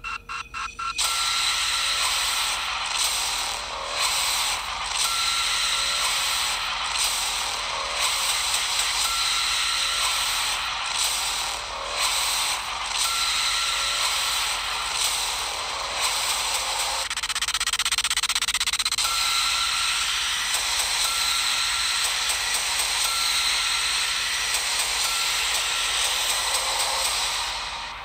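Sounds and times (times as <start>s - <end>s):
hissing dark ambient music: 1.0s - 28.0s
rapid clicking rattle: 1.0s - 28.0s.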